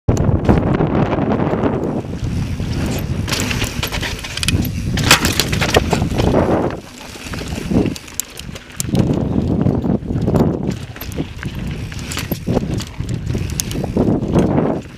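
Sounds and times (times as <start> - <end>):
wind buffeting microphone: 0.1 - 14.9
bike clattering over bumps: 0.2 - 14.9
tyres rolling over rock: 2.0 - 14.8.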